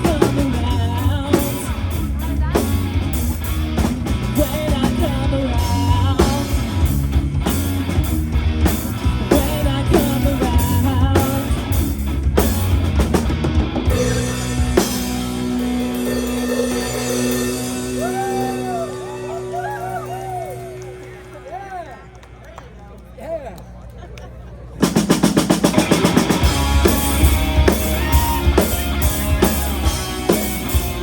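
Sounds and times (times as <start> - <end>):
live rock band playing: 0.0 - 22.1, 24.8 - 31.0
held guitar notes bending: 0.0 - 22.2, 24.9 - 31.0.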